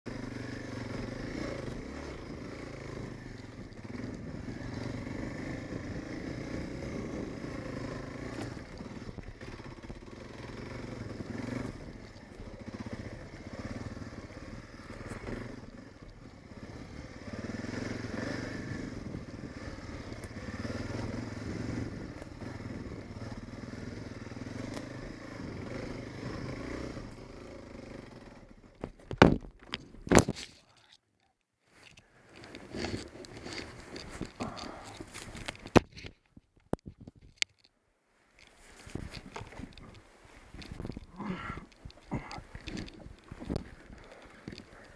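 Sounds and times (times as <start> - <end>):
motorcycle engine revving: 0.0 - 30.3, 32.2 - 35.8, 38.7 - 44.9.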